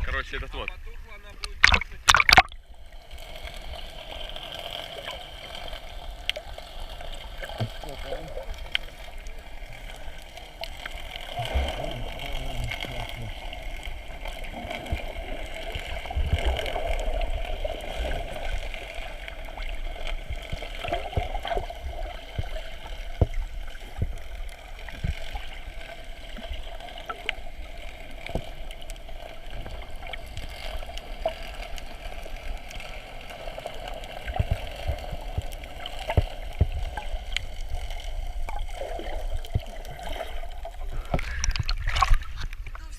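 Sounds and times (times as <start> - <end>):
water sloshing and gurgling: 0.0 - 42.9.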